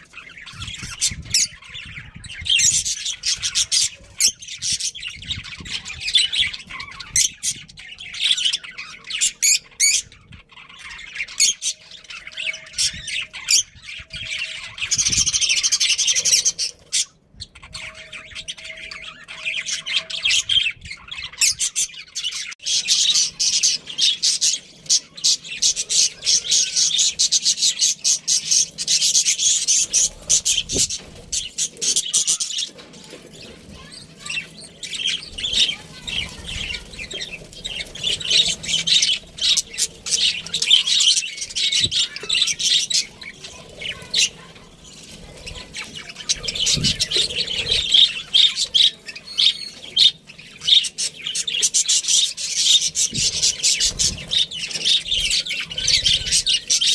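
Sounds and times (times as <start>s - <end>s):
budgerigars chirping and chattering: 0.0s - 56.9s.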